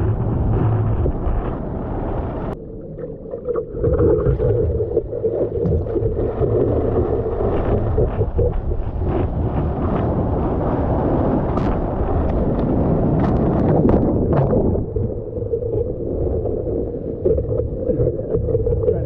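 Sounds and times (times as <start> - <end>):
wind buffeting microphone: 0.0 - 2.6, 4.0 - 19.0
ocean water rushing and splashing: 0.0 - 19.0.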